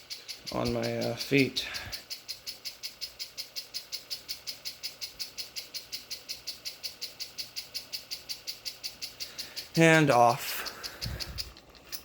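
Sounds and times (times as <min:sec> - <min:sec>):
ceiling fan running: 0:00.0 - 0:12.0
fast even ticking: 0:00.0 - 0:12.0.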